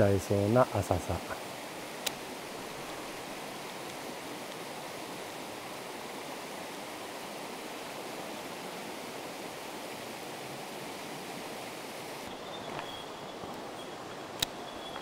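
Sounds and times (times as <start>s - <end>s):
stream water running over rocks: 0.0s - 15.0s.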